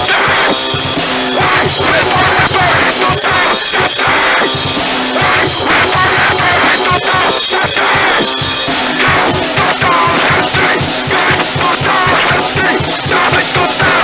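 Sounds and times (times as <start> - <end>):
busy drum kit: 0.0 - 14.0
fast distorted rock music: 0.0 - 14.0.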